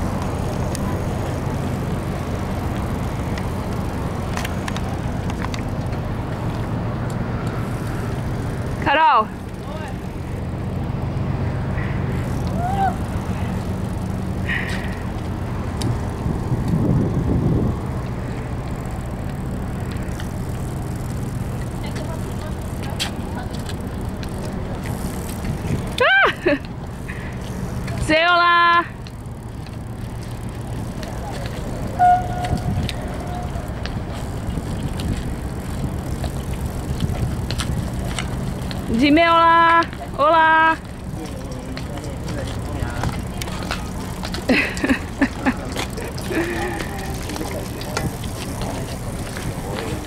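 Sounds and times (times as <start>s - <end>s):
bicycles rolling on pavement: 0.0s - 50.0s
footsteps on asphalt: 0.0s - 50.0s
low outdoor rumble: 0.0s - 50.0s
faint bicycle clicks: 2.1s - 10.7s, 12.2s - 16.8s, 17.9s - 50.0s.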